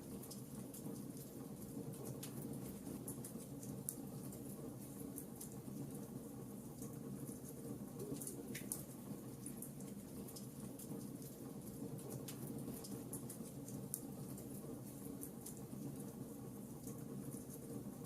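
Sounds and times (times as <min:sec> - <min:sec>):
wood fire crackling: 0:00.1 - 0:18.0.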